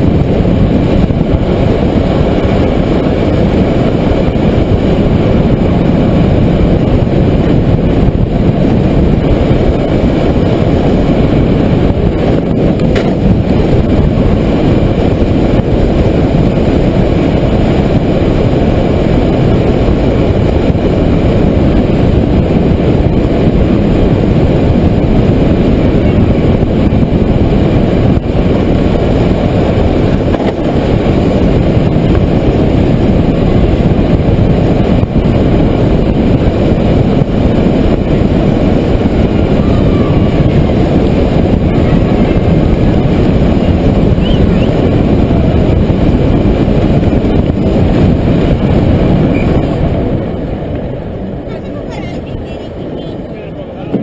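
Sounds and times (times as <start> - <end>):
wind rushing: 0.0 - 54.0.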